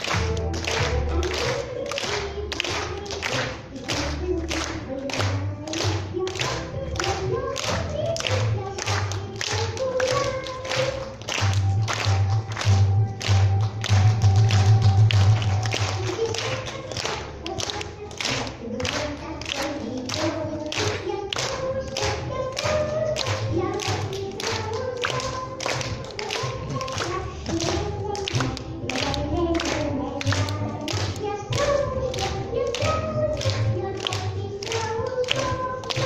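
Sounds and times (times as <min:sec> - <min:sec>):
person singing: 0:00.0 - 0:36.0.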